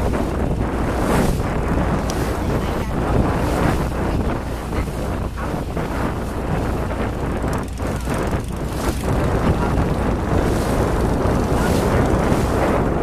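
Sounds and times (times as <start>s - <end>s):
boat engine rumble: 0.0s - 13.0s
water rushing past hull: 0.0s - 13.0s
wind buffeting microphone: 0.0s - 13.0s.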